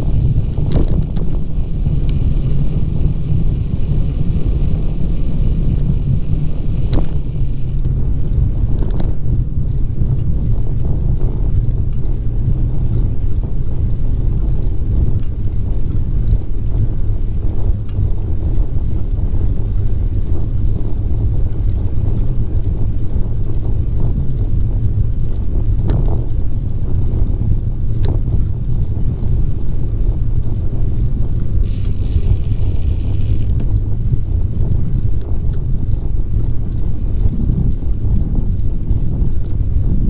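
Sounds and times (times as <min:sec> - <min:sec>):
wind rumbling on microphone: 0:00.0 - 0:40.0.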